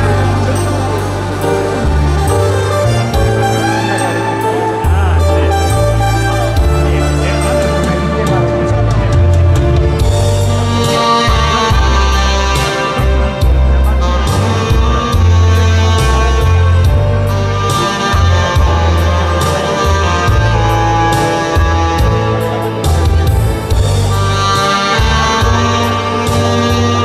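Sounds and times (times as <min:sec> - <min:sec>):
bass line: 0:00.0 - 0:27.0
saxophone slow melody: 0:00.0 - 0:27.0
steady drum beat: 0:00.0 - 0:27.0.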